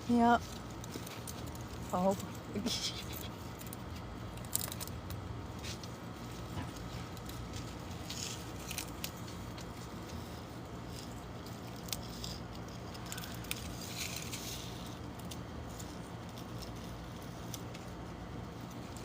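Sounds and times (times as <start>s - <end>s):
hedgehog shuffling: 0.0s - 19.0s
steady low hum: 0.0s - 19.0s
hedgehog licking and chewing cardboard: 0.1s - 19.0s.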